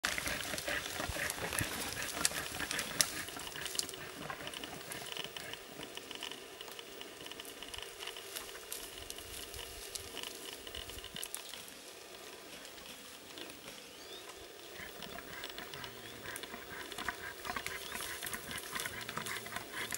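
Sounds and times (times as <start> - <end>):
animals rustling through dry shrubs: 0.0 - 19.9.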